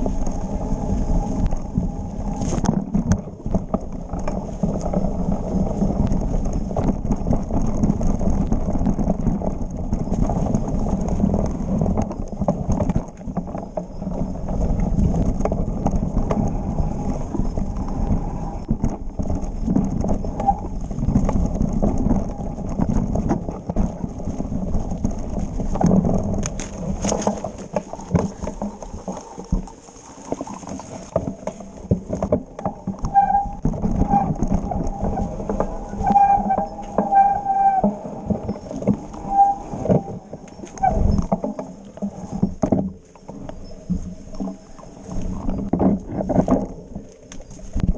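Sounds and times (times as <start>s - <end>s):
bike clattering over rough ground: 0.0s - 47.9s.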